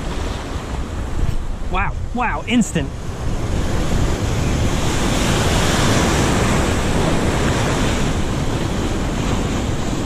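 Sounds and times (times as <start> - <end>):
surf washing over rocks: 0.0 - 10.0
wind rumbling on microphone: 0.0 - 10.0.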